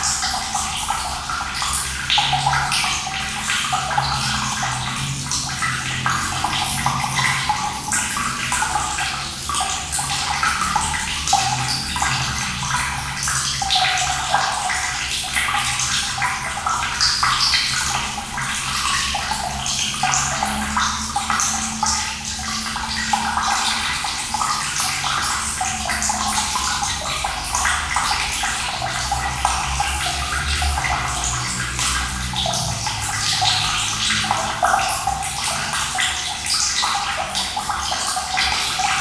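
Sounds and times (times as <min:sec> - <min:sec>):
low water rumble: 0:00.0 - 0:39.0
running water splashing: 0:00.0 - 0:39.0.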